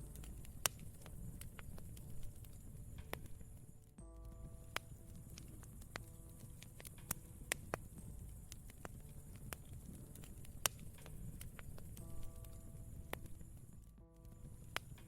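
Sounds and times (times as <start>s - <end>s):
soft piano notes: 0.0s - 15.0s
wood fire crackling: 0.0s - 15.0s.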